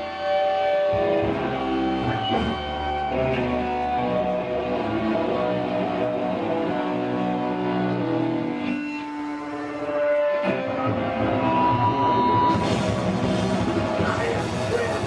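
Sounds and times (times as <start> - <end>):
electric guitar chords: 0.0 - 15.0
punk band playing live: 0.0 - 15.0.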